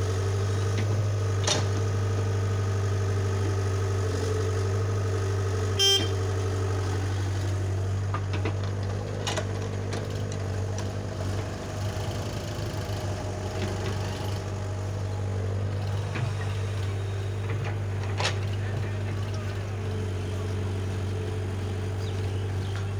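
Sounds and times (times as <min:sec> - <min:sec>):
excavator diesel engine: 0:00.0 - 0:22.9
tractors running: 0:00.0 - 0:22.9.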